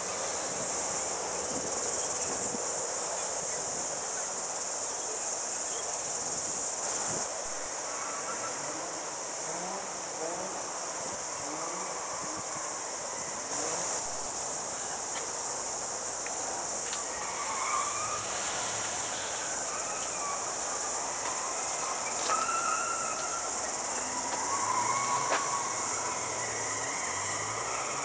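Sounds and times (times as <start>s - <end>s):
distant voices: 0.0s - 28.0s
insects chorus: 0.0s - 28.0s.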